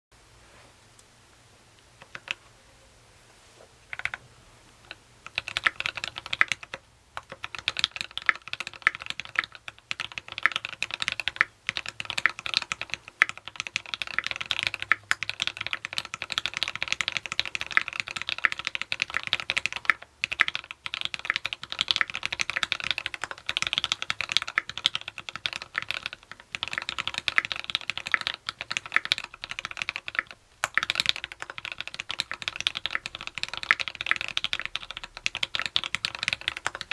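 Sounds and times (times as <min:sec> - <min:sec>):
mechanical keyboard typing: 0:02.0 - 0:02.4, 0:03.9 - 0:04.2, 0:04.9 - 0:36.9.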